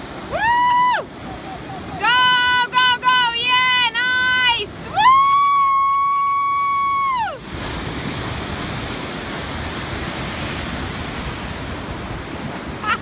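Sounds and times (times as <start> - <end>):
wave breaking into whitewater: 0.0 - 13.0.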